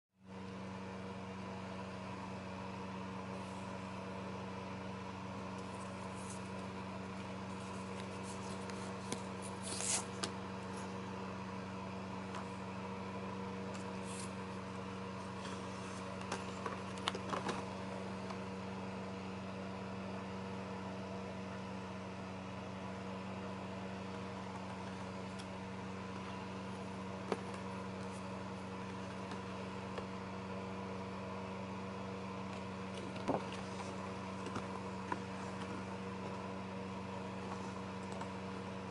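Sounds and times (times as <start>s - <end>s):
low machine hum: 0.2s - 38.9s.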